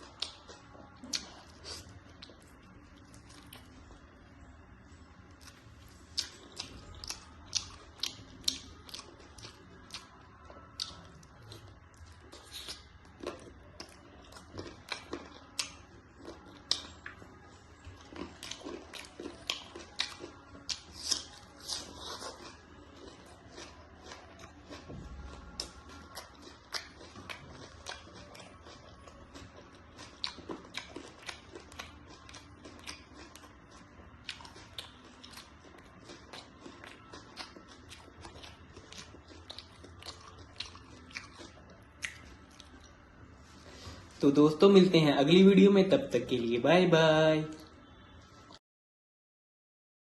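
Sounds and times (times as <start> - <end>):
chewing mouth sounds: 0.0 - 3.8, 5.3 - 44.2.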